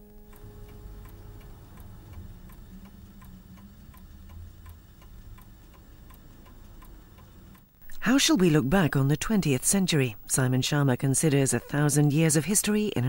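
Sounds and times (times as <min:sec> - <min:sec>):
low hum: 0:00.0 - 0:11.6
clock ticking: 0:00.0 - 0:13.0.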